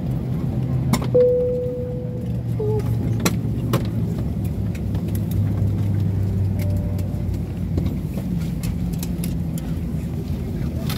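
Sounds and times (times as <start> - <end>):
aircraft cabin air drone: 0.0 - 10.9.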